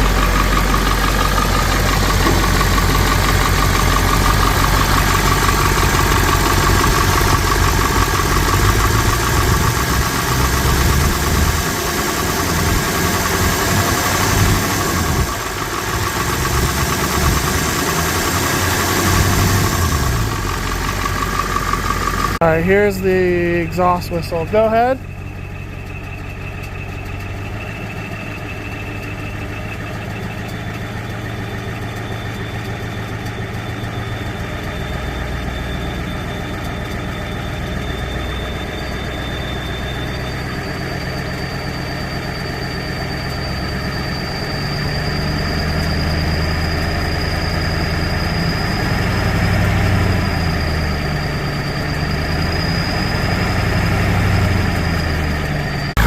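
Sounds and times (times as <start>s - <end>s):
diesel engine running: 0.0s - 56.0s
high whistle from exhaust: 0.0s - 56.0s.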